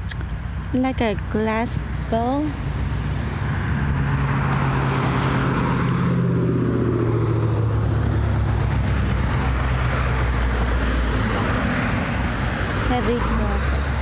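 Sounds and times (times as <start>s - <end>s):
traffic passing on a road: 0.0s - 14.0s
vehicle passing by: 1.6s - 14.0s.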